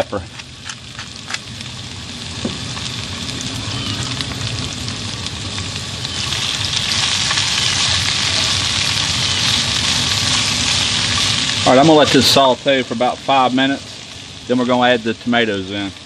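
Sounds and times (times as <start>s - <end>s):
vegetables sizzling in a skillet: 0.0s - 16.0s.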